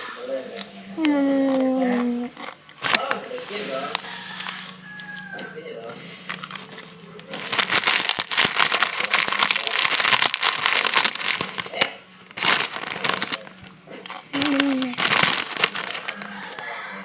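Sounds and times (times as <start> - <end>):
crunching of fried noodle snack: 0.5 - 16.9.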